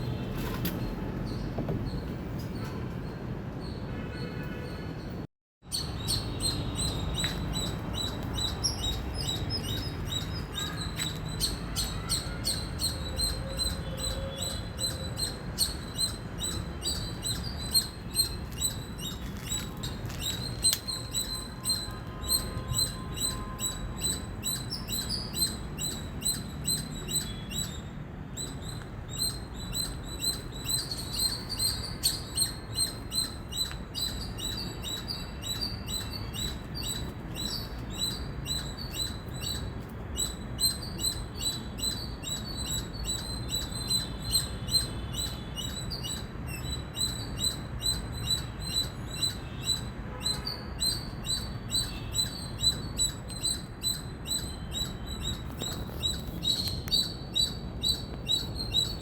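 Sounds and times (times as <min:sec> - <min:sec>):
squirrel chirping: 0:05.7 - 0:59.0.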